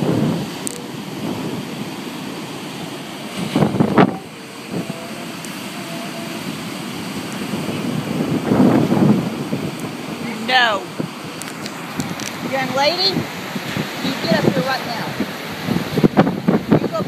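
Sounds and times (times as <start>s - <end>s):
storm wind on microphone: 0.0s - 17.0s
surf rushing: 0.0s - 17.0s.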